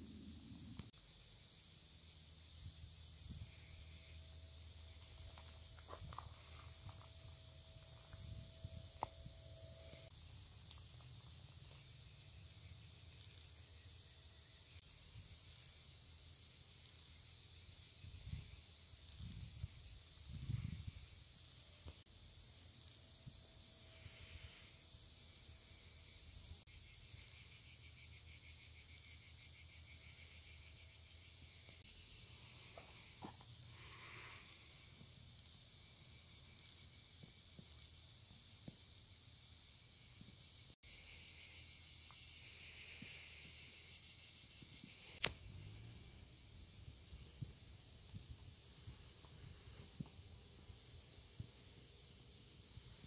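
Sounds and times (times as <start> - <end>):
high insect trill: 0.0 - 53.0
insects chirring: 0.0 - 53.0.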